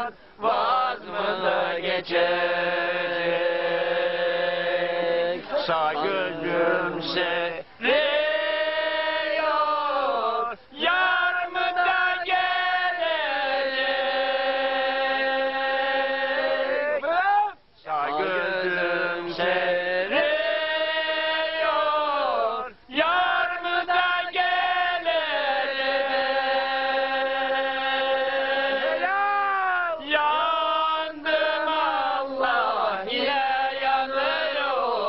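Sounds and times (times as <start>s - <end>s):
man singing unaccompanied: 0.0s - 35.0s.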